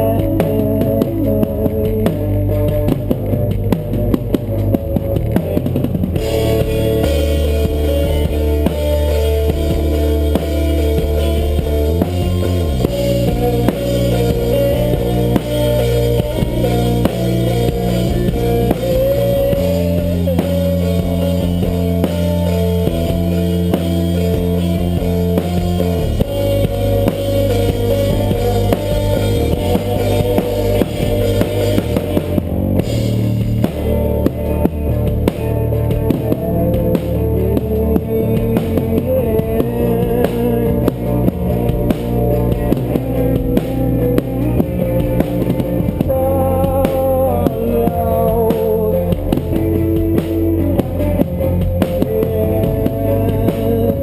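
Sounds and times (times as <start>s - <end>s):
drum kit: 0.0s - 54.0s
guitar: 0.0s - 54.0s
held bass notes: 0.0s - 54.0s.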